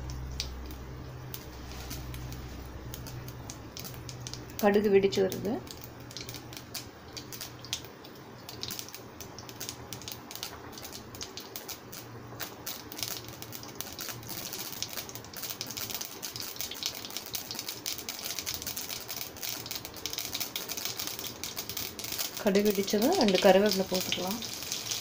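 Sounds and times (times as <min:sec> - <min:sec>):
seeds popping in hot oil: 0:00.0 - 0:25.0.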